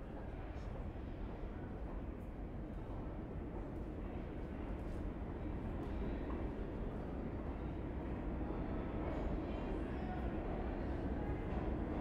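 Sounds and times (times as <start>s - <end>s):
subway low rumble with hiss: 0.0s - 12.0s.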